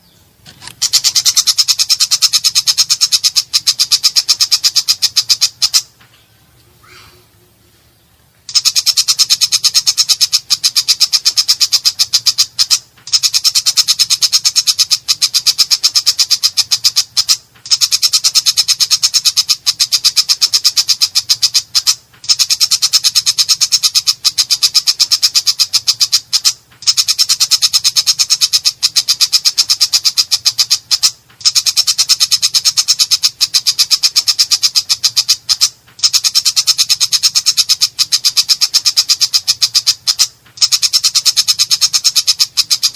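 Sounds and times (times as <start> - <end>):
bird rattling chatter: 0.4 - 5.9, 8.5 - 42.9.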